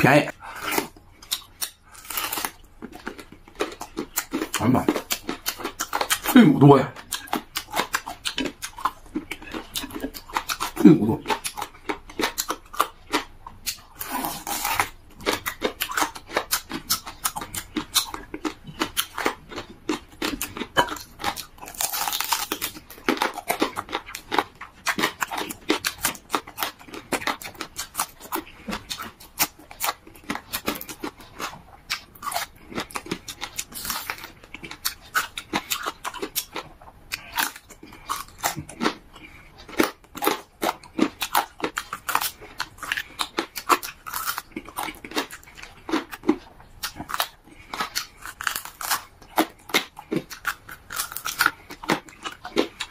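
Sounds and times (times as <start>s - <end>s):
sucking or crunching noises: 0.0s - 52.9s
chewing with mouth smacks: 0.6s - 52.9s.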